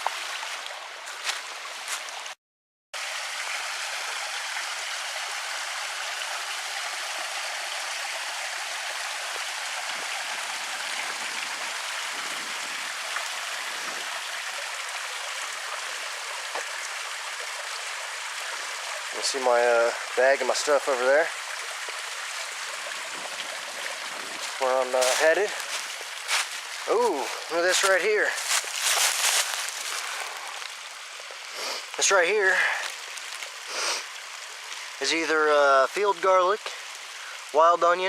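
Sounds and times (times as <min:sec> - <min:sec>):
stream water rushing: 0:00.0 - 0:02.4, 0:03.0 - 0:38.0.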